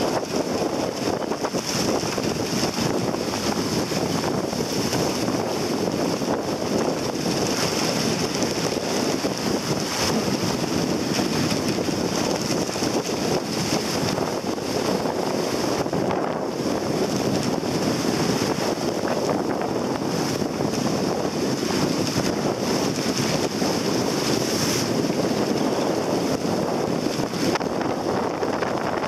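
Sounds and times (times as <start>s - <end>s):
choppy sea rushing: 0.0s - 29.0s
wind buffeting microphone: 0.0s - 29.0s.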